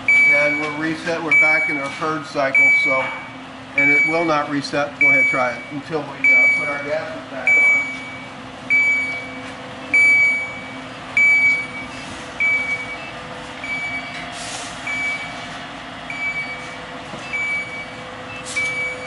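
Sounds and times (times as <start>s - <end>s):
high-pitched alarm beeping: 0.1s - 14.2s, 14.8s - 15.5s, 16.1s - 19.0s.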